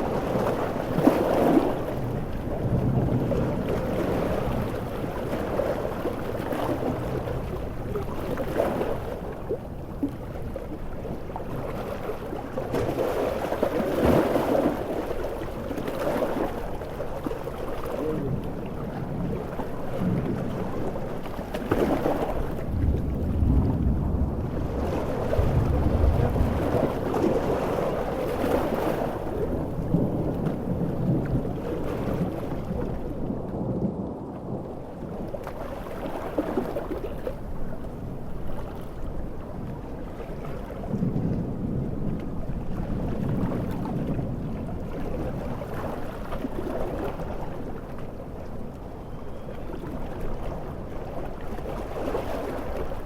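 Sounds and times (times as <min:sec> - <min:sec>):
ocean waves breaking: 0:00.0 - 0:53.0
wind: 0:00.0 - 0:53.0.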